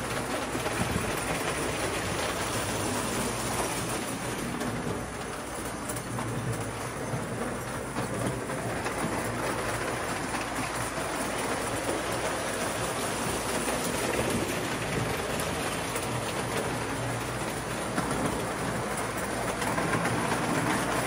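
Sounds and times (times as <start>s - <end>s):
toy train motor hum: 0.0s - 21.0s
wheels clicking on rails: 0.0s - 21.0s.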